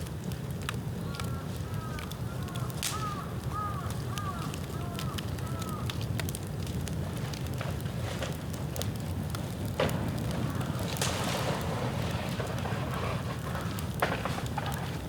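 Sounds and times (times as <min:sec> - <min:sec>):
bamboo bonfire crackling and popping: 0:00.0 - 0:15.0.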